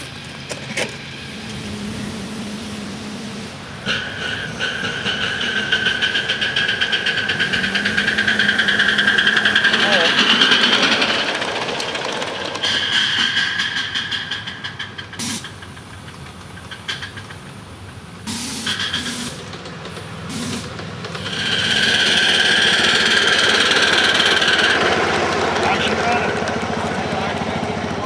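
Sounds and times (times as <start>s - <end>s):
steam locomotive exhaust beats: 0.0s - 28.0s
rail clatter: 3.5s - 28.0s.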